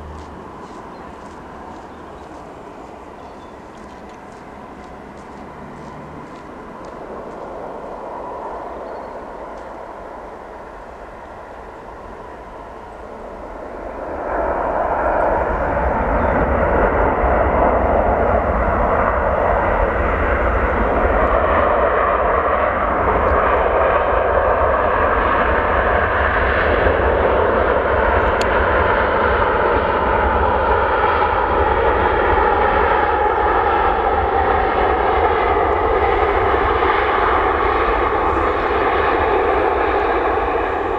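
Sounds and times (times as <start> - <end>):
airliner engine roar: 0.0 - 40.9.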